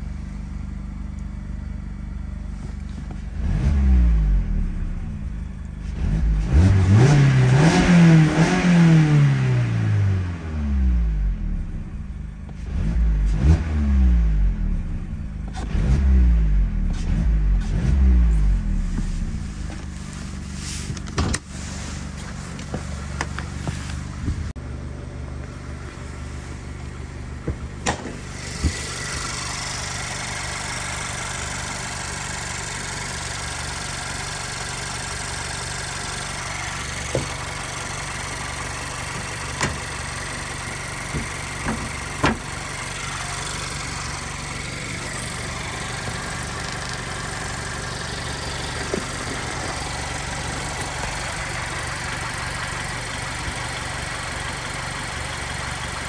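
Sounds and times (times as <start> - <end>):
car engine idling: 0.0 - 12.6, 16.3 - 56.0.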